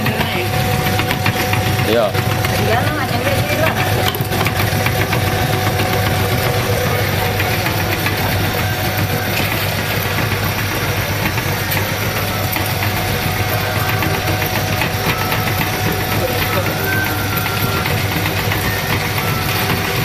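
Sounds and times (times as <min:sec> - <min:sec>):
meat grinder humming and rattling: 0:00.0 - 0:20.0.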